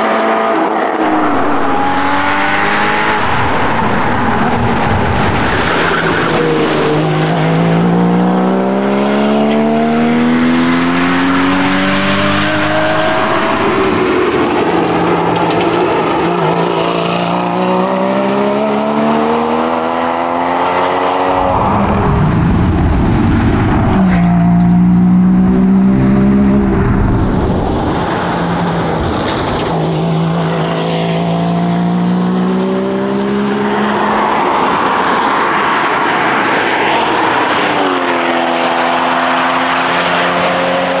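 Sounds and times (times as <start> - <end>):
car engine revving: 0.0 - 41.0
car rushing past: 0.0 - 41.0.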